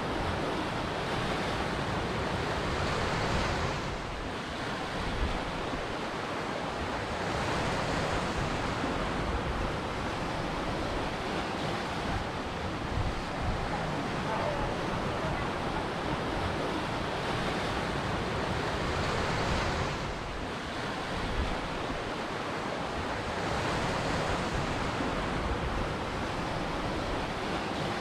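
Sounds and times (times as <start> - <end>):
waves breaking: 0.0 - 28.0.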